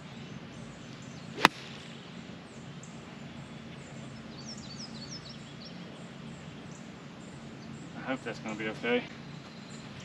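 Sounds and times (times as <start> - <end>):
open-air background noise: 0.0 - 10.0.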